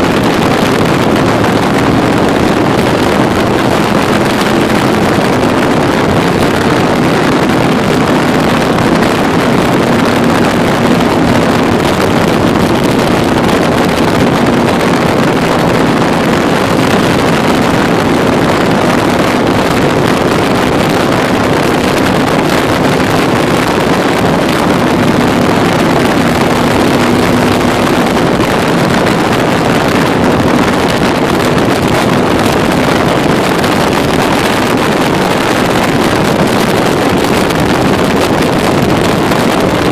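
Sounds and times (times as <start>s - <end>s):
engine running at cruise: 0.0s - 39.9s
wind rushing over microphone: 0.0s - 39.9s.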